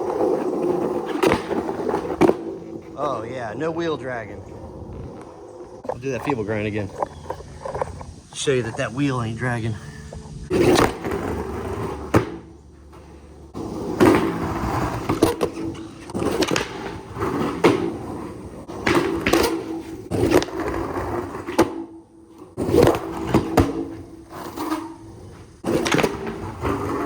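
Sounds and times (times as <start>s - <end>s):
skateboard rolling on concrete: 0.0s - 27.0s
skateboard trucks clacking and scraping: 0.0s - 27.0s.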